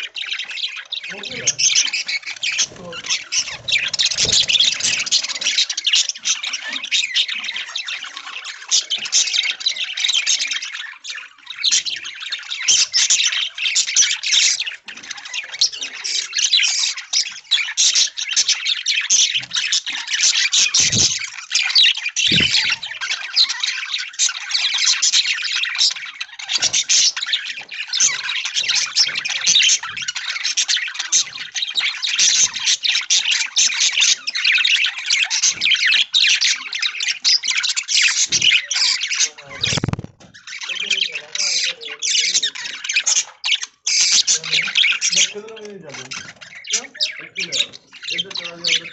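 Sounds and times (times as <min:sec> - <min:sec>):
budgerigars chattering: 0:00.0 - 0:48.9.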